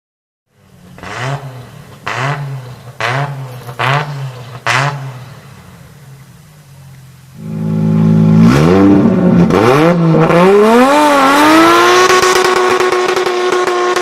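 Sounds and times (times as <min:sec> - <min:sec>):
car engine revving and idling: 0:00.5 - 0:14.0.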